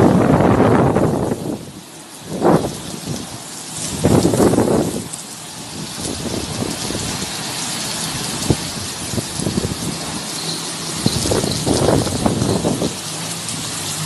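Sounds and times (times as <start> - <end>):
heavy rain pouring on street: 0.0 - 14.0.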